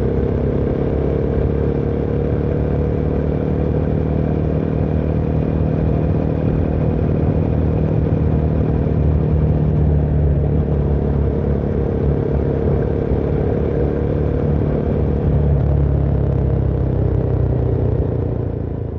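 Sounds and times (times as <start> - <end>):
motorcycle engine running: 0.0 - 18.9
road noise: 0.0 - 18.9.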